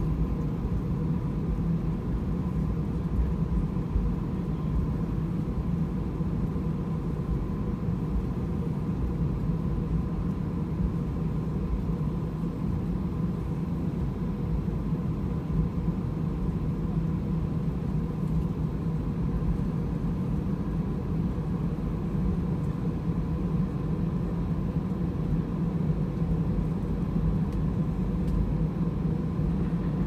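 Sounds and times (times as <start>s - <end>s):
airliner cabin low rumble: 0.0s - 30.0s
thin steady whine: 0.0s - 30.0s.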